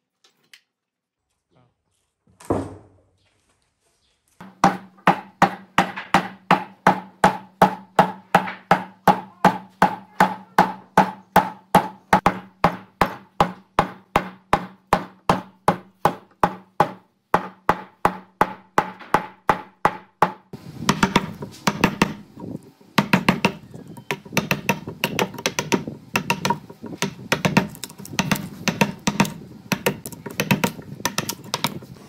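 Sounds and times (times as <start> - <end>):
hammer striking wood: 4.4 - 31.8.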